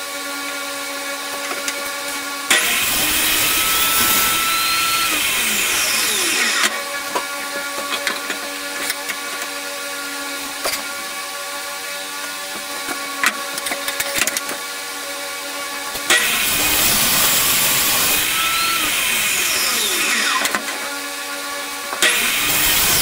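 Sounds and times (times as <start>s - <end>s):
table saw motor hum: 0.0s - 23.0s
saw blade cutting wood: 0.1s - 23.0s.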